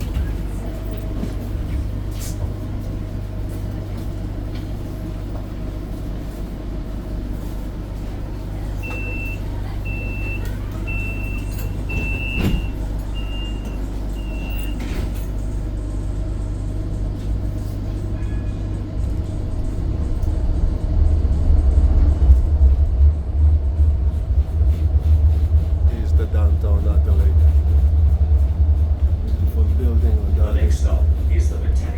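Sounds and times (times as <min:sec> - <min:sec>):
tram rumbling: 0:00.0 - 0:31.9.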